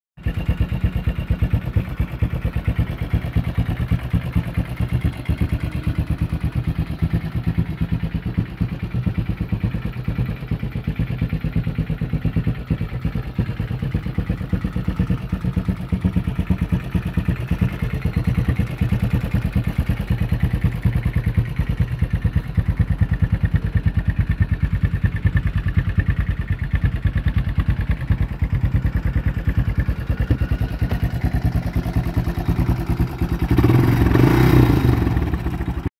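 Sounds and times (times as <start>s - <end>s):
atv engine idling: 0.2s - 35.9s.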